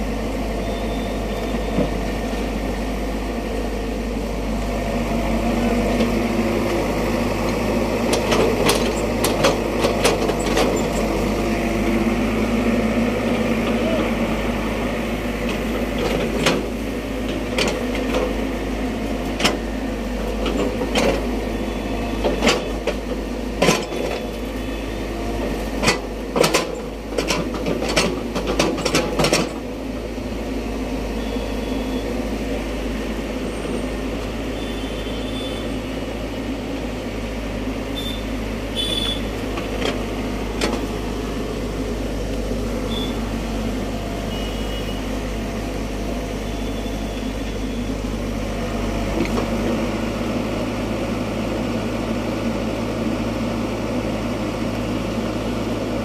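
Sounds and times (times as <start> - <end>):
diesel excavator engine running: 0.0 - 56.0.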